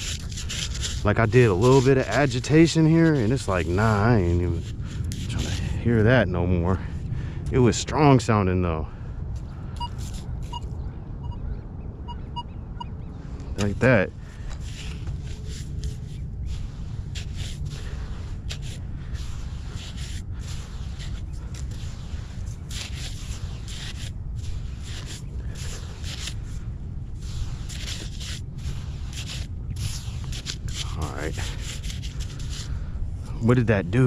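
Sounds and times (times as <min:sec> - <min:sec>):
sand scraping and rustling: 0:00.0 - 0:08.9, 0:09.7 - 0:10.7, 0:13.6 - 0:34.0
wind rumble on microphone: 0:00.0 - 0:34.0.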